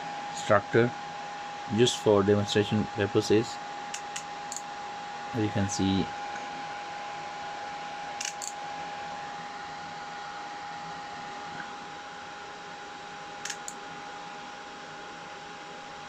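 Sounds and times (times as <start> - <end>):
fume extractor fan whine: 0.0 - 16.0.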